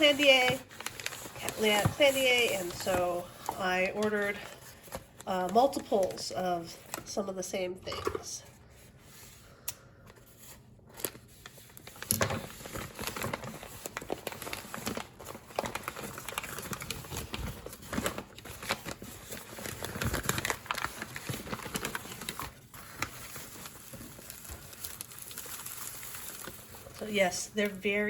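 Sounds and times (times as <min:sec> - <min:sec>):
plastic wrapping crinkling: 0:00.0 - 0:07.4, 0:10.3 - 0:28.0.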